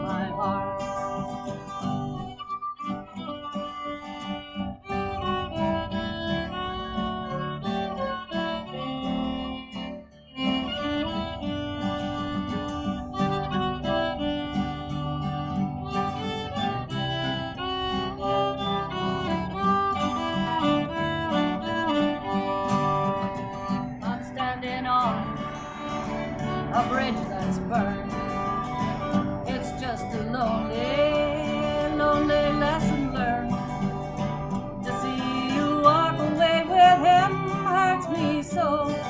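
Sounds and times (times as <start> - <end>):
acoustic guitar strumming: 0.0 - 39.0
fiddle playing melody: 0.0 - 39.0.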